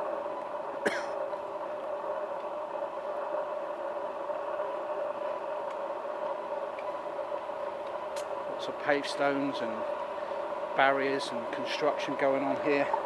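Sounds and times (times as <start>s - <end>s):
steady droning hum: 0.0s - 13.0s.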